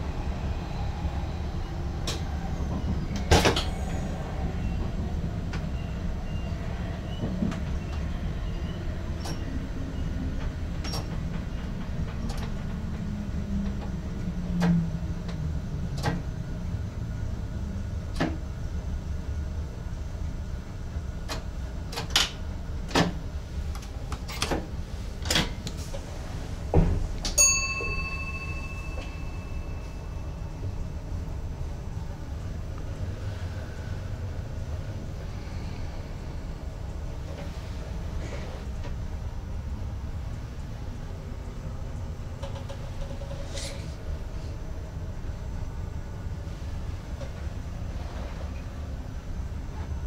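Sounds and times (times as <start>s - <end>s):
train running rumble: 0.0s - 50.0s.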